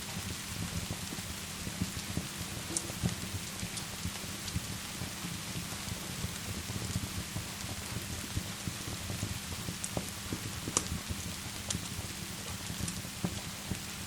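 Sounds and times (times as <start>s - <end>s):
crackling fireplace: 0.0s - 14.0s
steady rain: 0.0s - 14.0s.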